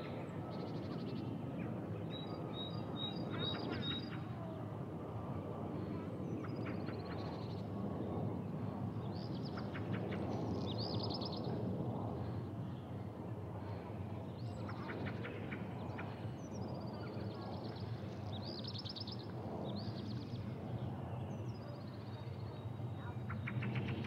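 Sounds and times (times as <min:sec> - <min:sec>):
jet airliner rumble: 0:00.0 - 0:24.0.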